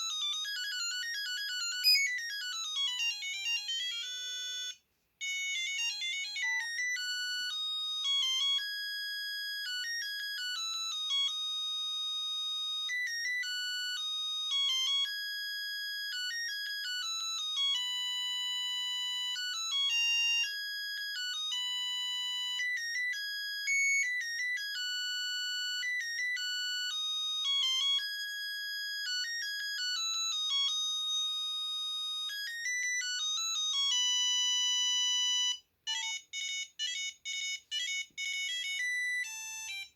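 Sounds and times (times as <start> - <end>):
mobile phone ringtone melody: 0.0 - 39.9.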